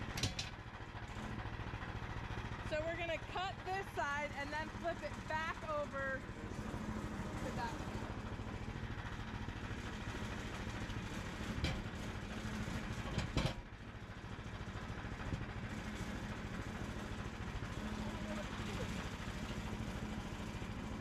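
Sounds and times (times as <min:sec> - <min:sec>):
small gasoline engine idling: 0:00.0 - 0:21.0.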